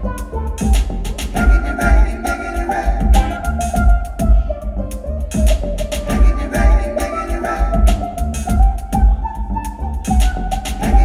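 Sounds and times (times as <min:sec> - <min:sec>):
low thumping beat: 0:00.0 - 0:11.0.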